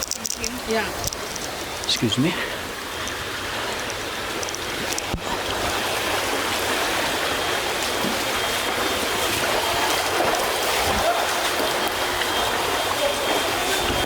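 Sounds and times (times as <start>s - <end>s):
flowing floodwater: 0.0s - 14.0s
heavy rain: 0.0s - 14.0s.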